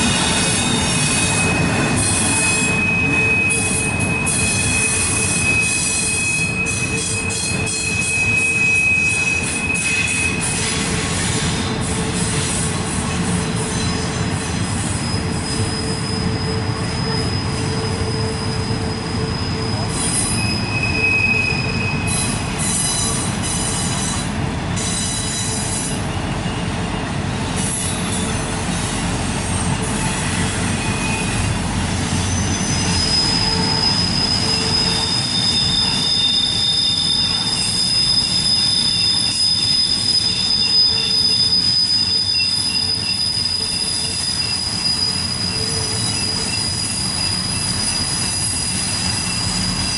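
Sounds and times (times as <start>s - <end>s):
wheel flange squeal: 0.0s - 12.6s, 13.4s - 49.9s
train wheels rumbling on rail: 0.0s - 49.9s.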